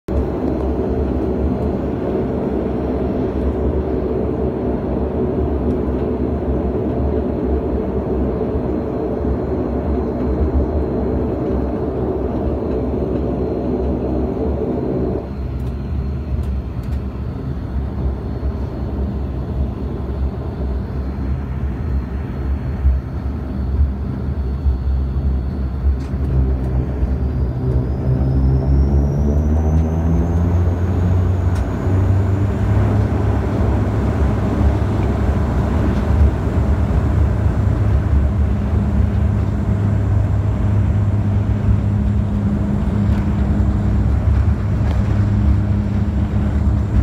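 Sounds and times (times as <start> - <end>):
turboprop cabin drone: 0.0 - 47.0
low rumble: 0.1 - 47.0
mid-pitched hum: 0.1 - 47.0.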